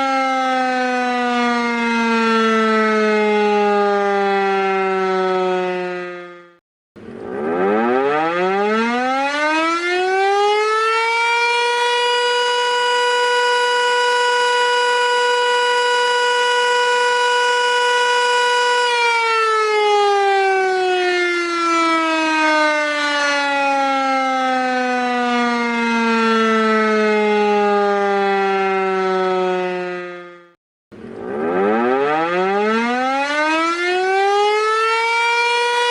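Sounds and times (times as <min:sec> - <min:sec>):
siren wailing: 0:00.0 - 0:35.9.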